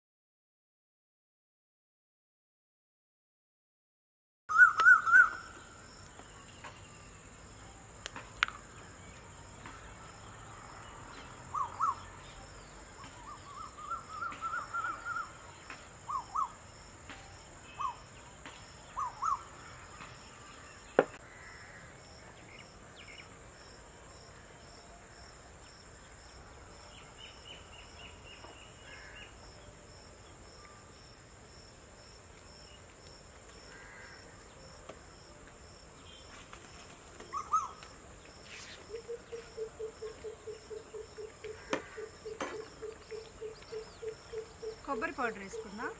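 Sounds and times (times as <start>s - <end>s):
insect drone with chirping: 4.5s - 45.9s.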